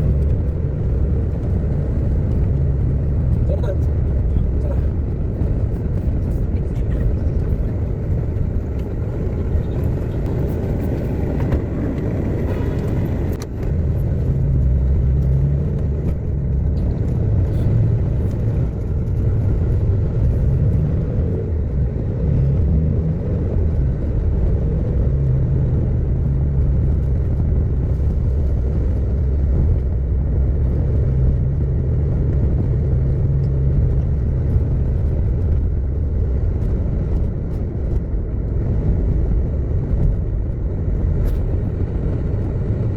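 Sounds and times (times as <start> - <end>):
car engine and tyres rumbling: 0.0 - 42.9.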